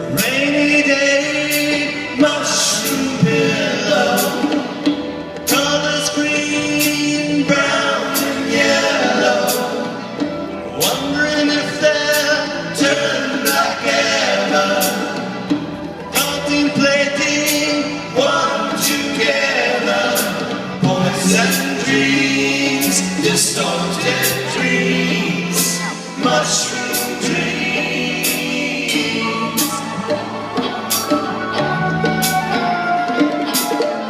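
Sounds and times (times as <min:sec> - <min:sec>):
rock band playing live: 0:00.0 - 0:34.0
voices singing together: 0:00.0 - 0:34.0.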